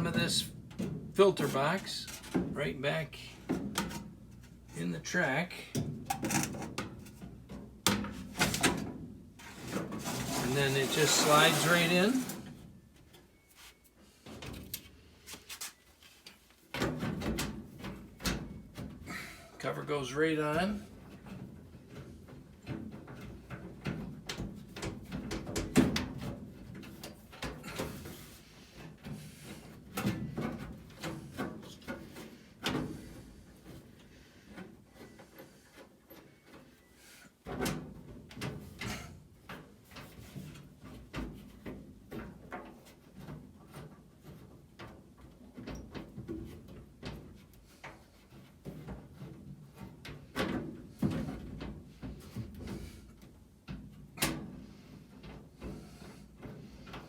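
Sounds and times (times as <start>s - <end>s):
knocks and scrapes handling filter box: 0.0s - 5.0s, 5.7s - 12.6s, 20.5s - 57.0s.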